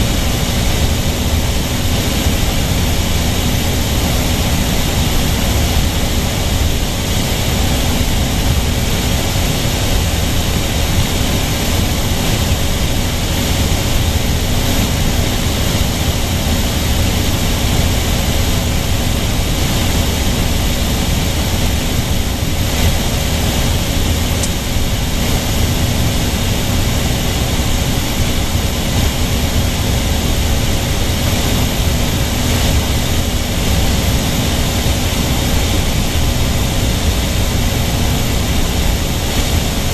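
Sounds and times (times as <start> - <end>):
airflow noise: 0.0 - 39.9
light airplane engine drone: 0.0 - 39.9.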